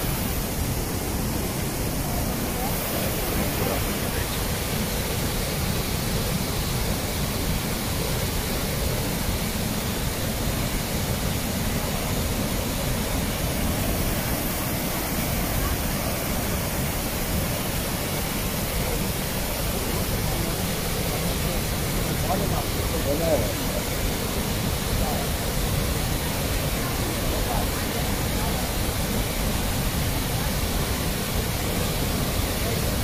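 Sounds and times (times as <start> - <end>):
large waterfall rushing: 0.0 - 33.0.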